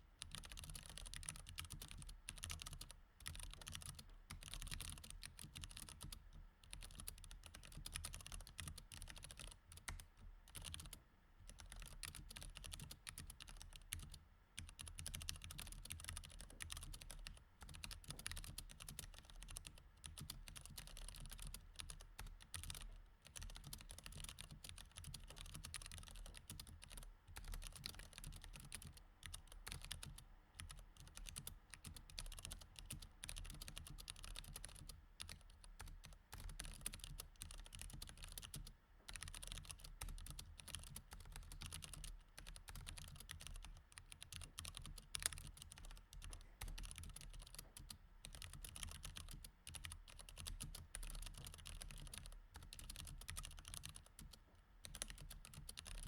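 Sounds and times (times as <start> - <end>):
fast typing on mechanical keyboard: 0.2 - 56.0.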